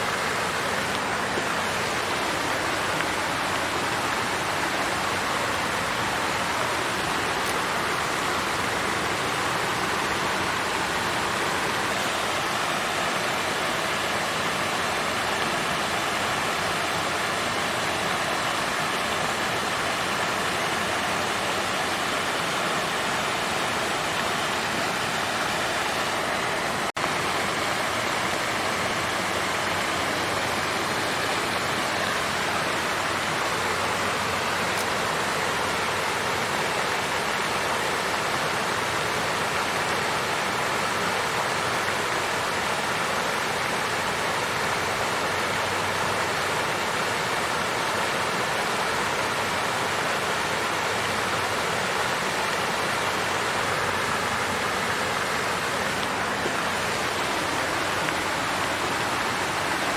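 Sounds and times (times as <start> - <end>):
water fountain splashing: 0.0 - 59.9.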